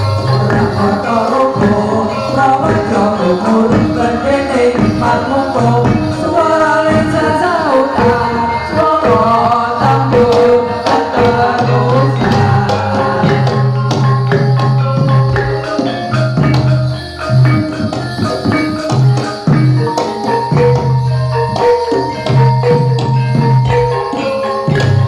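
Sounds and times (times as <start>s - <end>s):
gamelan ensemble playing: 0.0s - 25.0s.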